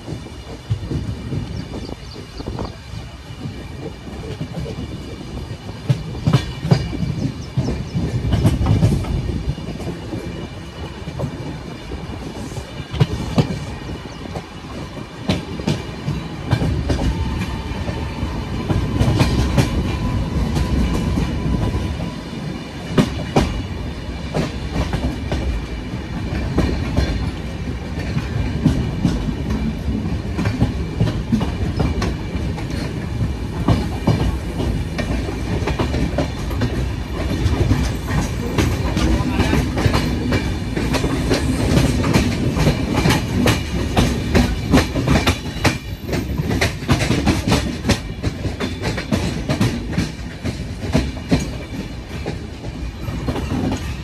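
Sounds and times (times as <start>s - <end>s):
train low rumble: 0.0s - 54.0s
wheels clacking over rail joints: 0.0s - 54.0s.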